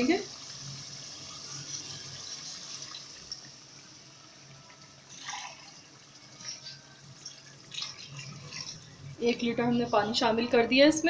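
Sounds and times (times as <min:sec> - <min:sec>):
water pouring into pot: 0:00.0 - 0:09.2.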